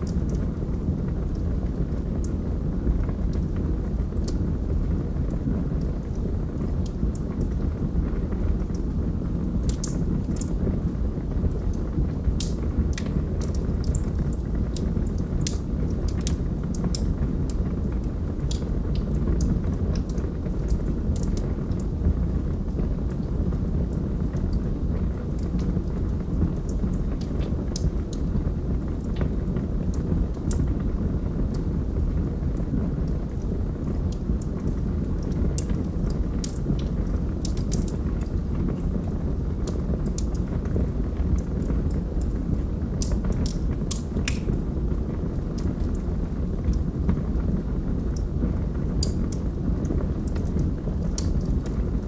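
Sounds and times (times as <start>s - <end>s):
fire crackling and popping: 0.0s - 52.0s
fireplace flames roaring: 0.0s - 52.0s.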